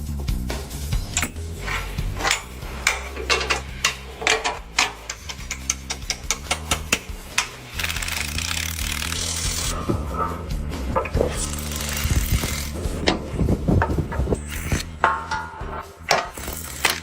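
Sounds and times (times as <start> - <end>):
background music with bass: 0.0 - 17.0
clicks and knocks on metal parts: 1.1 - 9.6, 11.0 - 17.0
hissing noise: 1.2 - 17.0.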